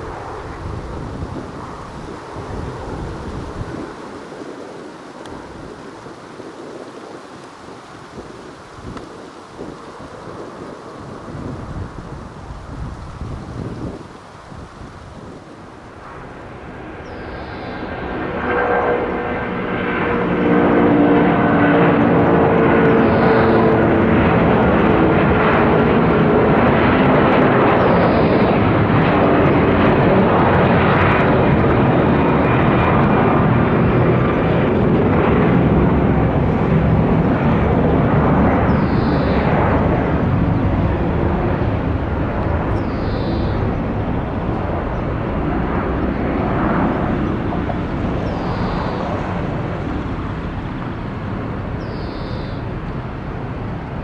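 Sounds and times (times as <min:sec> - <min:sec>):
jet engines of airliner climbing: 0:00.0 - 0:54.0.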